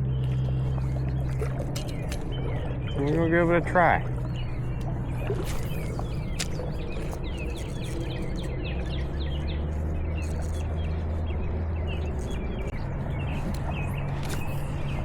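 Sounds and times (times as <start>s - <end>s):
low hum: 0.0s - 15.0s
small birds chirping: 0.0s - 15.0s.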